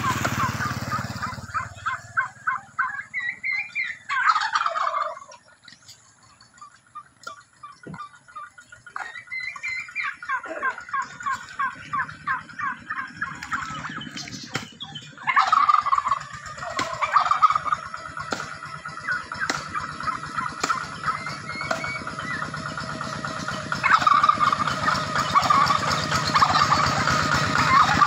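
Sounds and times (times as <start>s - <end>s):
turkeys gobbling: 0.0s - 28.0s.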